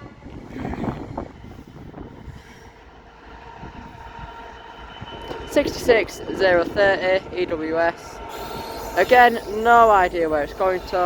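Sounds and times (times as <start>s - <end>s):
diesel locomotive rumbling past: 0.0s - 11.0s
wind buffeting microphone: 0.0s - 11.0s.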